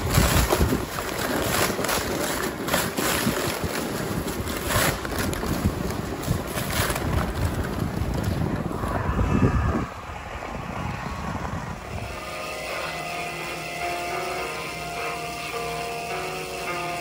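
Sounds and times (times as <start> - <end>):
wind buffeting microphone: 0.0 - 13.7
sled scraping and bumping on snow: 0.0 - 17.0.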